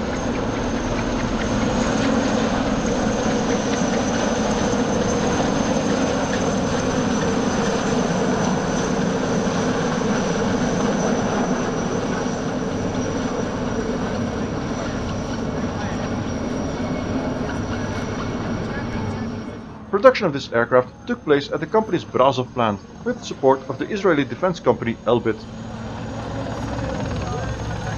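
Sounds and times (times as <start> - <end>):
helicopter rotor and engine: 0.0 - 27.9
high turbine whine: 0.0 - 27.9.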